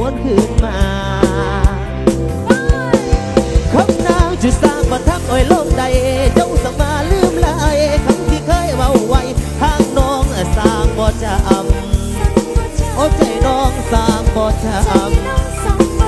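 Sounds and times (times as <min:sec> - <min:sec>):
heavy bass: 0:00.0 - 0:16.0
live band music: 0:00.0 - 0:16.0
steady drum beat: 0:00.0 - 0:16.0
vibrato melody line: 0:00.1 - 0:16.0.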